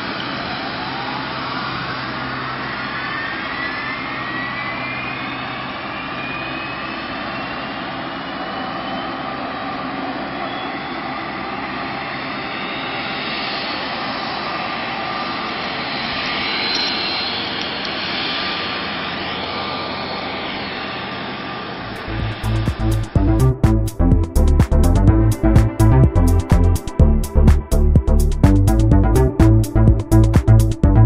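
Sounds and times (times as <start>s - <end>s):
jet engine spooling up: 0.0s - 31.0s.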